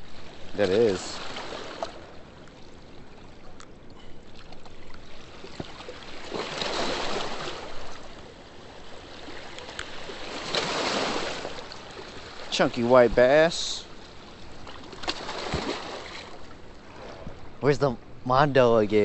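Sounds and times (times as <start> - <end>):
rushing river water: 0.0 - 17.8.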